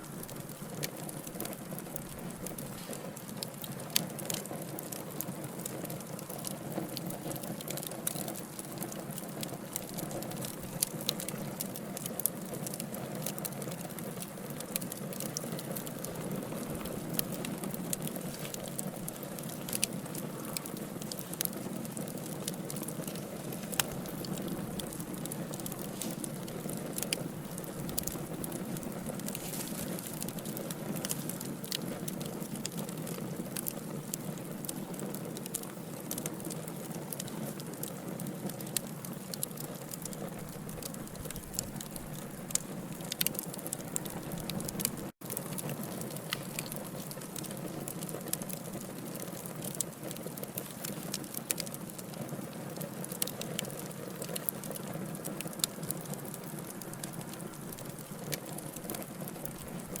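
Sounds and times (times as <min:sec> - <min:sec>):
logs crackling in fireplace: 0:00.0 - 1:00.0.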